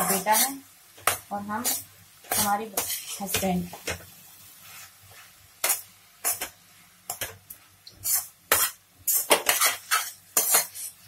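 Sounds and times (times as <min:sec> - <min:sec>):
spoon scraping a pan: 0:00.0 - 0:04.0, 0:04.6 - 0:11.0.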